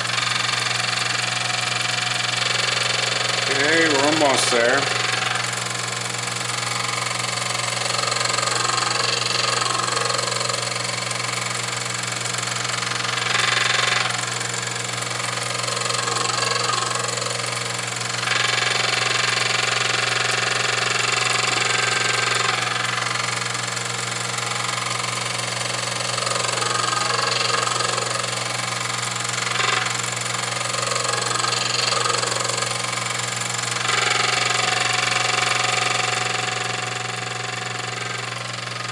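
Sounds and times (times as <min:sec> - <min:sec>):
grinder motor hum: 0:00.0 - 0:38.9.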